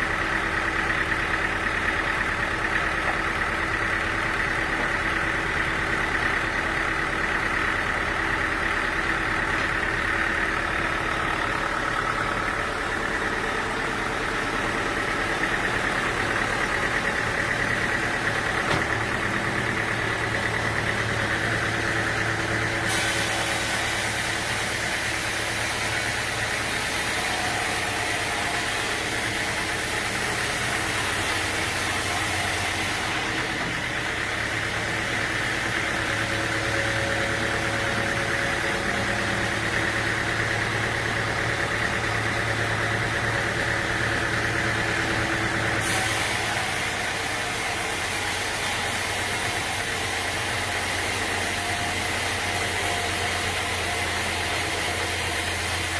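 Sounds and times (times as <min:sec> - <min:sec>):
sawmill machinery motor drone: 0:00.0 - 0:55.9.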